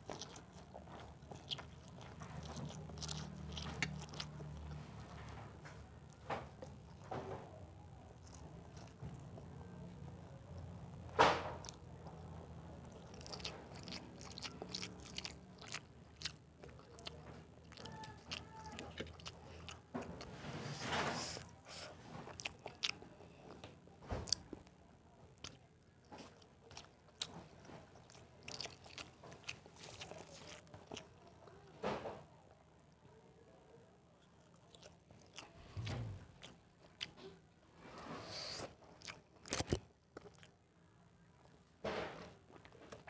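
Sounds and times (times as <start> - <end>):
person chewing food: 0.0 - 20.4, 21.1 - 31.7, 34.2 - 40.6, 41.2 - 43.0.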